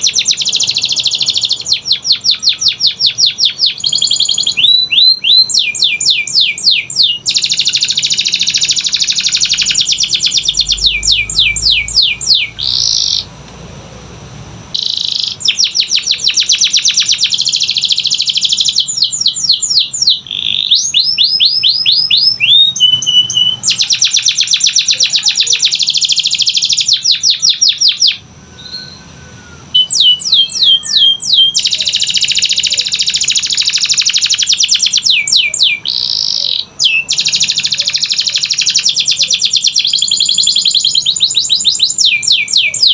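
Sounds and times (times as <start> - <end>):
canary singing: 0.0 - 13.4, 14.7 - 42.9.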